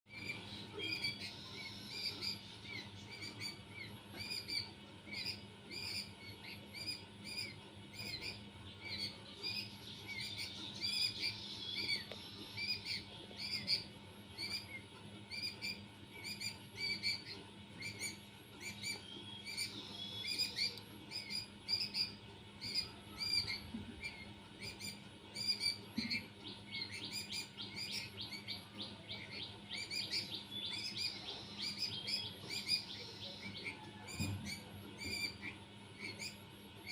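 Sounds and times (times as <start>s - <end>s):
birds chirping: 0.1s - 36.9s
faint steady hum: 0.1s - 36.9s.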